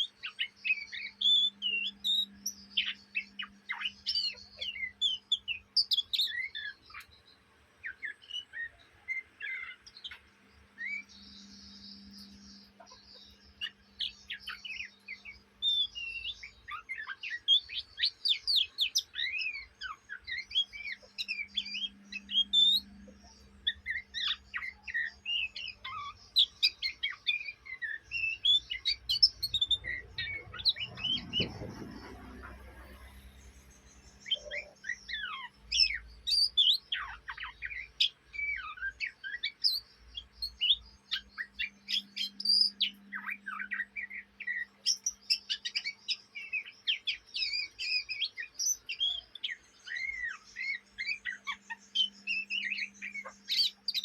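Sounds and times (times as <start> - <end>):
bird twittering song: 0.0 - 54.0.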